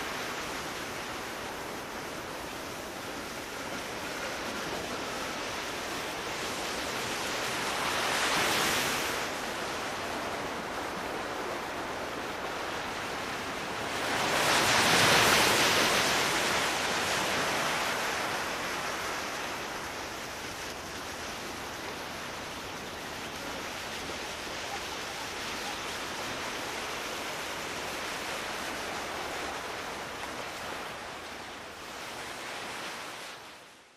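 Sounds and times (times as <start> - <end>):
sea waves washing on shore: 0.0 - 33.9.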